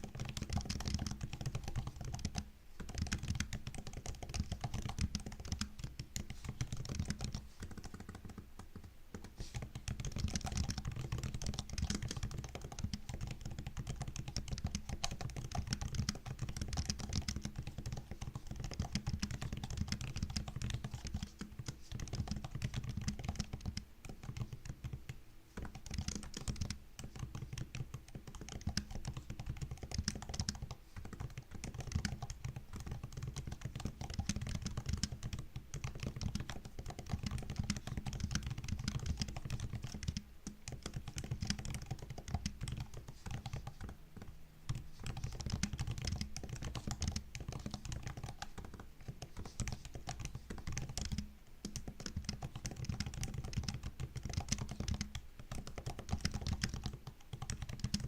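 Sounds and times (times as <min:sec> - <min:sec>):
laptop keyboard typing: 0:00.0 - 0:58.0.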